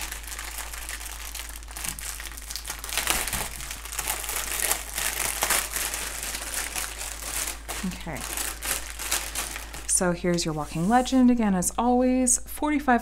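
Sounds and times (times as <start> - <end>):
plastic wrapping crinkling: 0.0 - 11.4.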